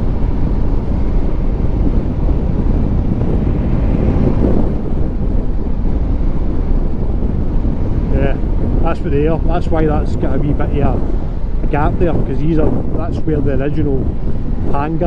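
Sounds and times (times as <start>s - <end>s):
motorcycle engine drone: 0.0s - 15.0s
road noise: 0.0s - 15.0s
wind rushing over microphone: 0.0s - 15.0s.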